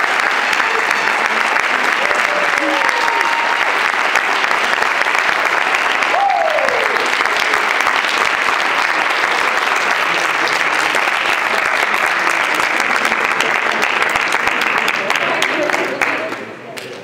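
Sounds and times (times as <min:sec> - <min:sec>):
people cheering: 0:00.0 - 0:16.4
audience clapping: 0:00.0 - 0:17.0.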